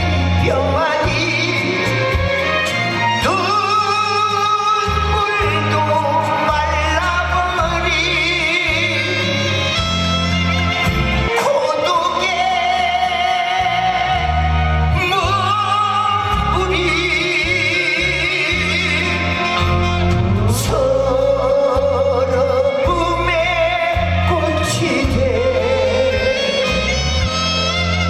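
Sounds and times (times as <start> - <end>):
bass line: 0.0 - 28.0
lead melody with heavy vibrato: 0.0 - 28.0
trot music through stage speakers: 0.0 - 28.0.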